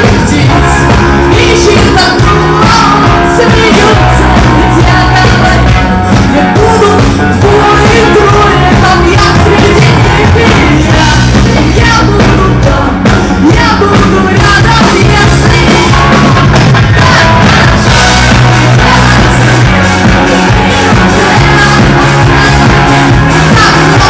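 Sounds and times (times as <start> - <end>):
live rock reggae band with orchestra: 0.0 - 24.0
person singing: 0.0 - 24.0
steady bass: 0.0 - 24.0.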